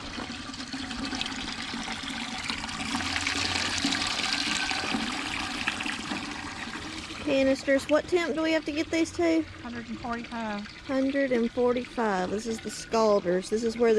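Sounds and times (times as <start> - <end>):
water running into a pot: 0.0 - 13.9.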